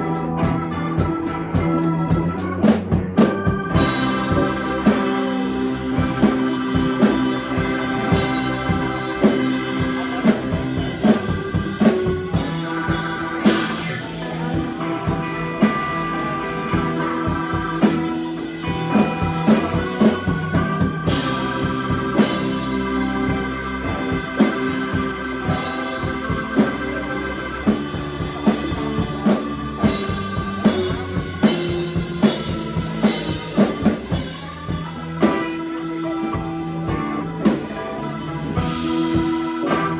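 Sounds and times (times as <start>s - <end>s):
drum kit steady beat: 0.0s - 39.9s
electric guitar: 0.0s - 39.9s
organ chords: 0.0s - 39.9s.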